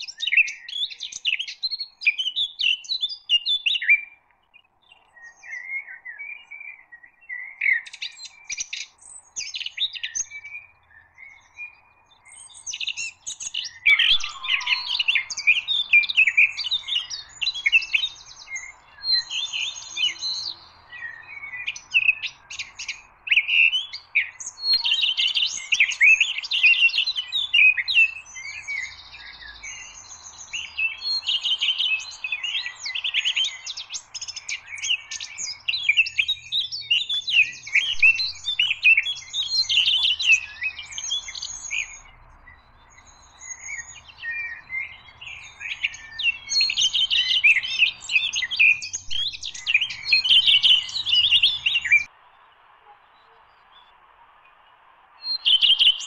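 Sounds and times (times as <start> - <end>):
songbirds chirping and warbling: 0.0 - 56.0.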